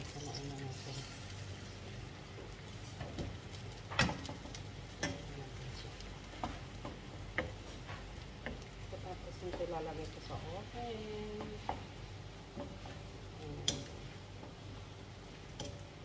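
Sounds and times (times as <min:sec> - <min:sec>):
chicken sizzling in pan: 0:00.0 - 0:16.0.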